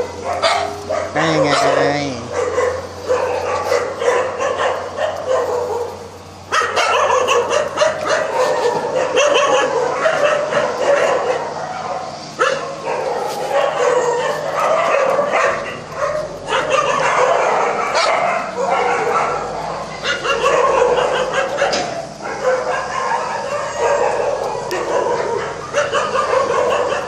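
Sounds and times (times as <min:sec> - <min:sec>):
dogs barking and yipping: 0:00.0 - 0:27.0.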